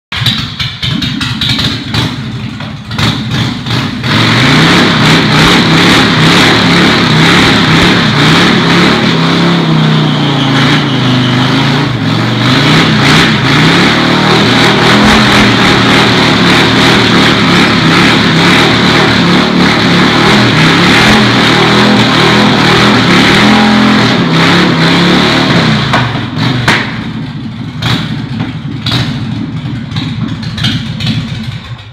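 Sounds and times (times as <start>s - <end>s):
motorcycle engine revving: 0.1s - 31.9s
tire spinning on concrete: 0.1s - 31.9s.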